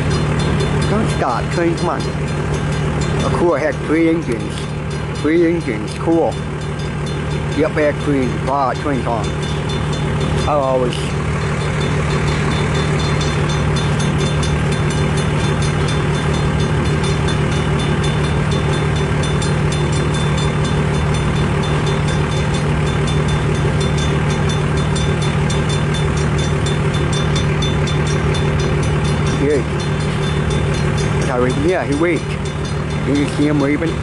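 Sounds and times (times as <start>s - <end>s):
constant low hum: 0.0s - 34.0s
freight train rumbling past: 0.0s - 34.0s
wheels clicking on rails: 0.0s - 34.0s.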